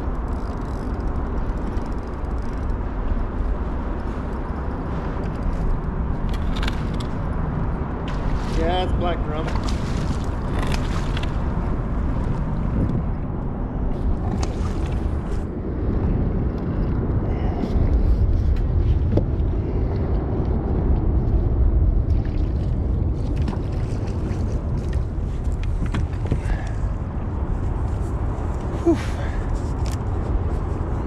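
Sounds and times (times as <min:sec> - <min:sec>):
steady low rumble: 0:00.0 - 0:31.0
wind on microphone: 0:00.0 - 0:31.0.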